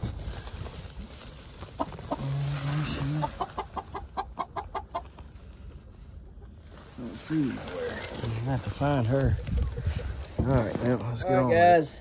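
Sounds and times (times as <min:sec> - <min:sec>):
hens clucking: 0:01.6 - 0:11.4.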